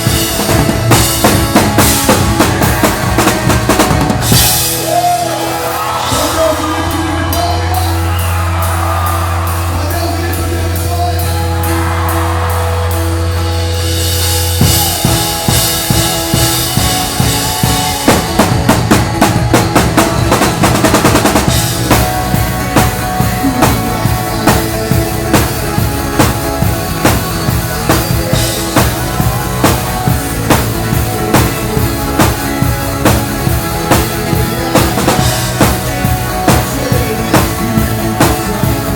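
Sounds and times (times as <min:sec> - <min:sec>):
bass note: 0:00.0 - 0:38.6
drum kit beat: 0:00.0 - 0:38.9
keyboard chords: 0:00.0 - 0:38.9
live worship band music: 0:00.0 - 0:38.9.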